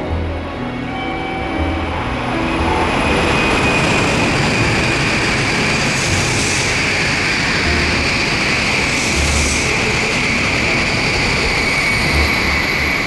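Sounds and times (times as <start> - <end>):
background music: 0.0 - 13.0
high-speed train passing: 0.0 - 13.0.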